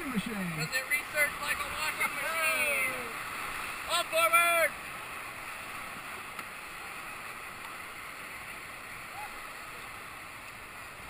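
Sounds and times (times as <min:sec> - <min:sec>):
whitewater rapids rushing: 0:00.0 - 0:11.0.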